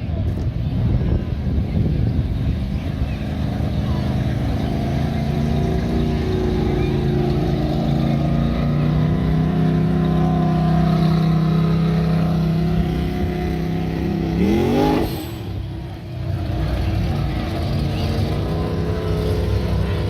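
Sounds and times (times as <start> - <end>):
car engine revving: 1.6 - 20.0.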